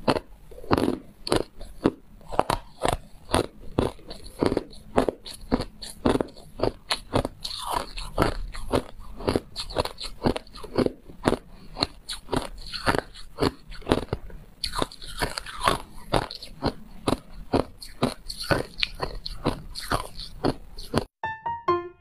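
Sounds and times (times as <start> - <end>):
ice being chewed crunching: 0.0 - 21.1.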